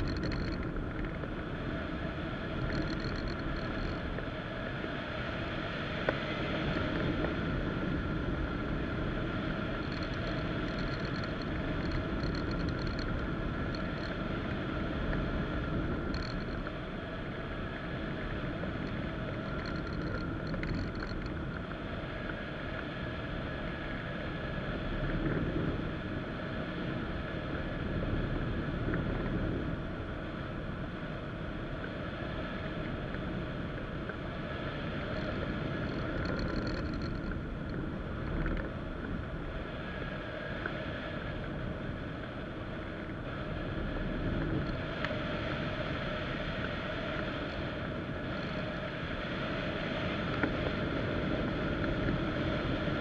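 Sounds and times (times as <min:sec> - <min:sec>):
wind noise on microphone: 0:00.0 - 0:53.0.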